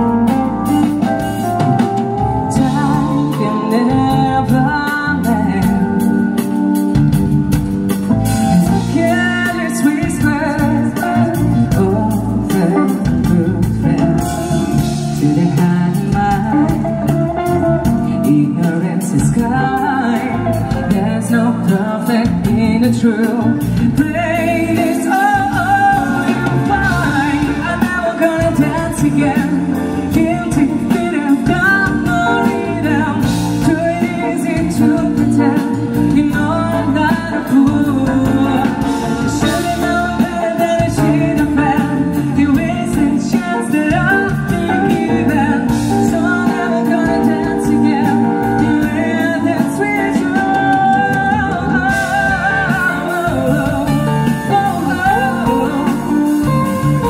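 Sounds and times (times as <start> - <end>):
drum kit beat: 0.0 - 57.0
guitar: 0.0 - 57.0
keyboard: 0.0 - 57.0
person singing: 0.0 - 57.0.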